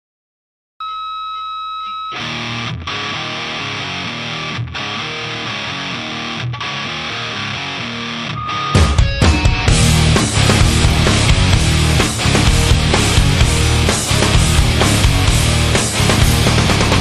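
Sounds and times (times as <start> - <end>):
distorted electric guitar riff: 2.1 - 17.0.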